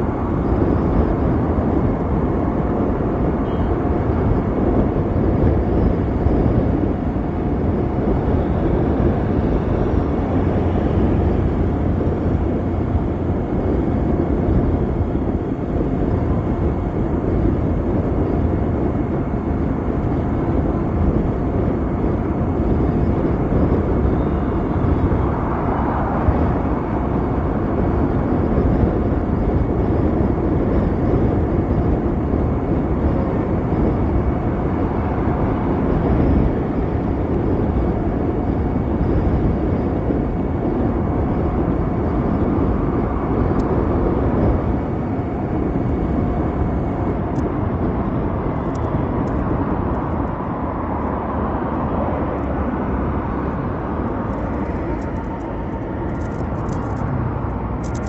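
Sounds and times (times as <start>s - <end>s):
faint high whine: 0.0s - 49.7s
wind and road noise: 0.0s - 58.0s.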